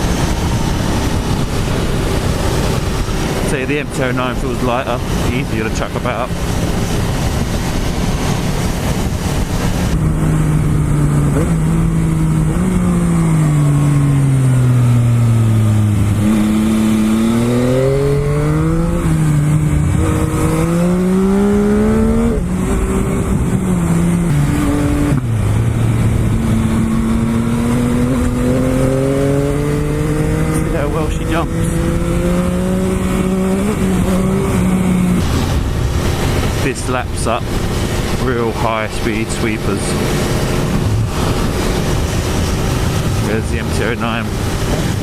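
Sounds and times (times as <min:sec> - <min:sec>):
motorcycle engine revving: 0:00.0 - 0:45.0
wind noise: 0:00.0 - 0:45.0.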